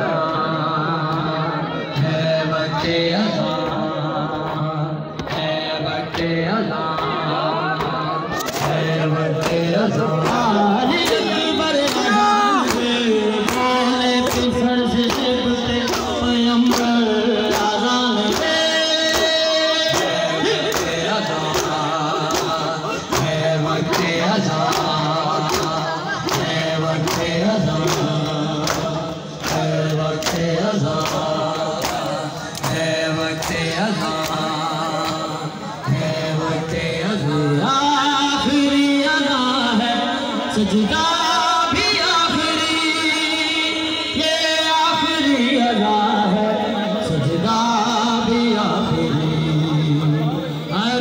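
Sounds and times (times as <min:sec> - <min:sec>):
men chanting a lament: 0:00.0 - 0:51.0.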